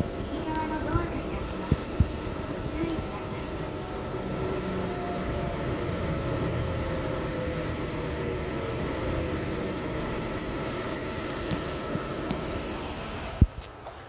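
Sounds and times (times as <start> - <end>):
train rumble with whine: 0.0 - 14.0.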